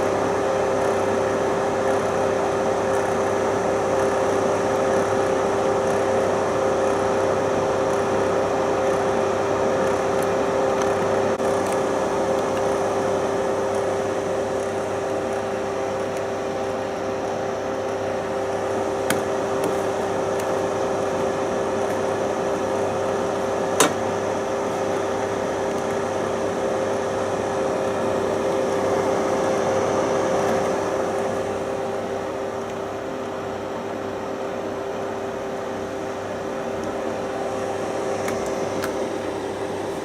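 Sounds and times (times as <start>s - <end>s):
fan heater motor hum: 0.0s - 40.0s.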